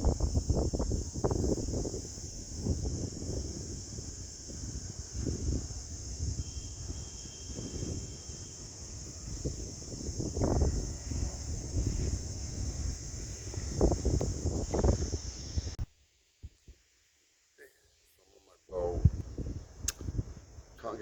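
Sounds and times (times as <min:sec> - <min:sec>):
wind on microphone: 0:00.0 - 0:15.8, 0:18.7 - 0:21.0
insects droning: 0:00.0 - 0:16.8, 0:17.6 - 0:21.0.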